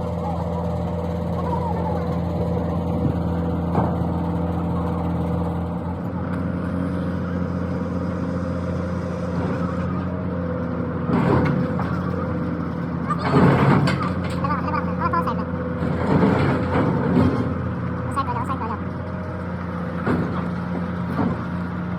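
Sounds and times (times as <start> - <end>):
excavator engine running: 0.0 - 21.9.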